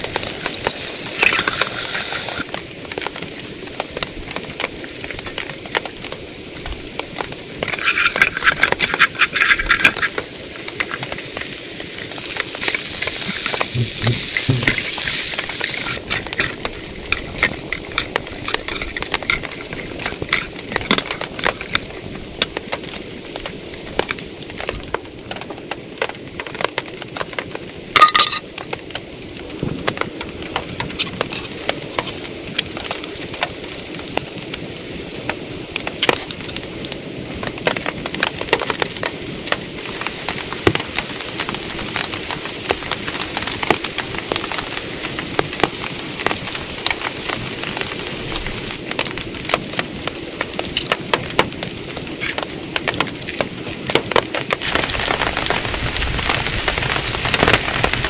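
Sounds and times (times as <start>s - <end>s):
heavy rain on hard surface: 0.0s - 58.0s.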